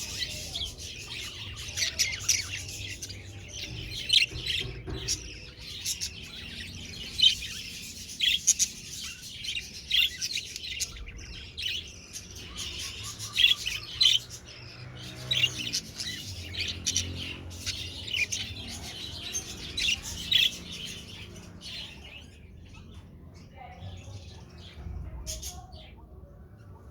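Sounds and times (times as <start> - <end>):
budgerigars chirping: 0.0 - 24.7.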